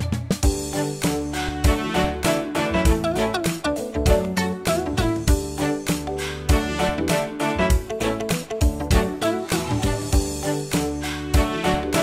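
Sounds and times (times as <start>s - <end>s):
upbeat jazzy music: 0.0s - 12.0s.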